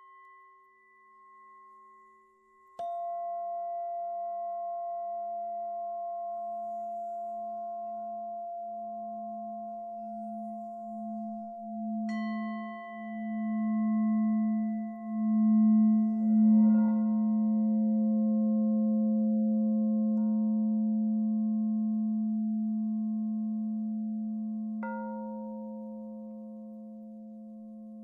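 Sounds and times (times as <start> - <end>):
singing bowl ringing: 0.0 - 28.0.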